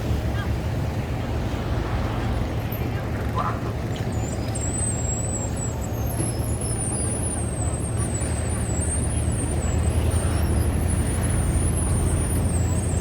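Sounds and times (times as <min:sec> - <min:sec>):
diesel boat engines rumbling: 0:00.0 - 0:13.0.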